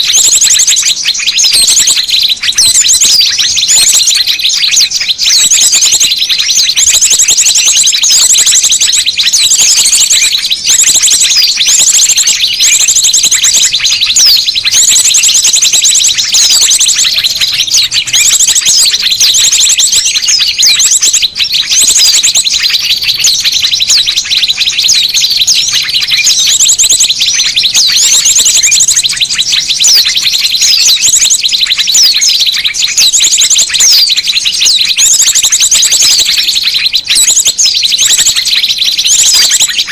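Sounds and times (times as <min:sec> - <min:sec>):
high bird trill: 0:00.0 - 0:39.9
small birds chirping chorus: 0:00.0 - 0:39.9.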